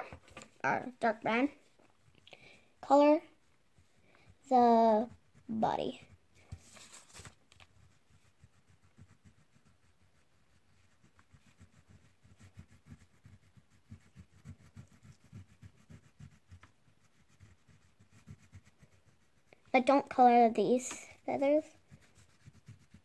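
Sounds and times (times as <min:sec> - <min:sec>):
crayon scrubbing on paper: 0:03.8 - 0:23.0.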